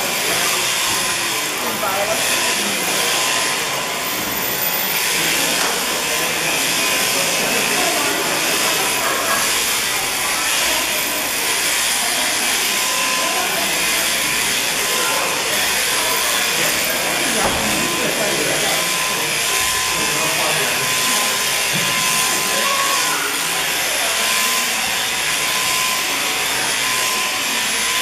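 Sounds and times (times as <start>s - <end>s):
sheep shearing handpiece whirring: 0.0s - 28.0s.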